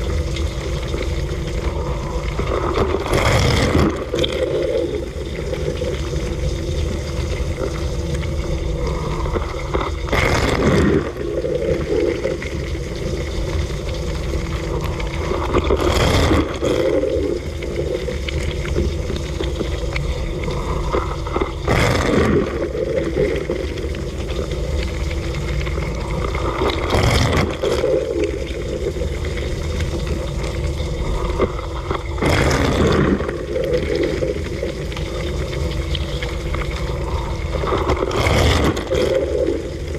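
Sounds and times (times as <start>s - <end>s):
rush of water from spray jet: 0.0s - 6.6s, 8.5s - 39.9s
water spraying and splashing: 0.0s - 39.9s.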